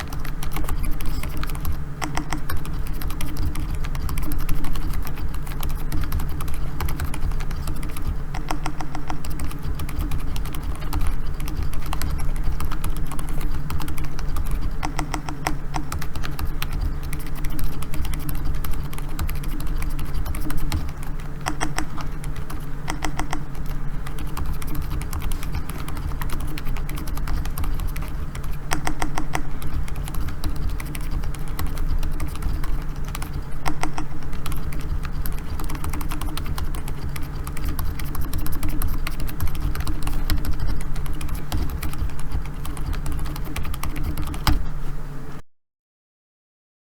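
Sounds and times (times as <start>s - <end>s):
fast typing on keyboard: 0.0s - 44.7s
steady low hum: 0.0s - 45.4s.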